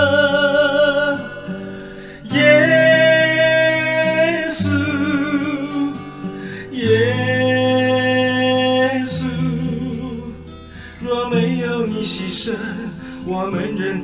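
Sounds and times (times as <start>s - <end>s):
sustained worship music chords: 0.0s - 14.0s.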